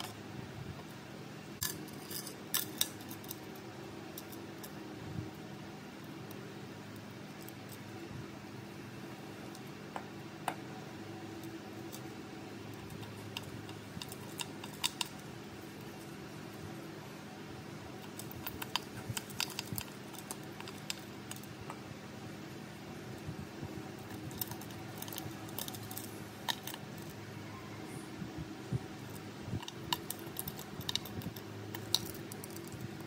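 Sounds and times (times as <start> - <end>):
steady fan hum: 0.0 - 33.0.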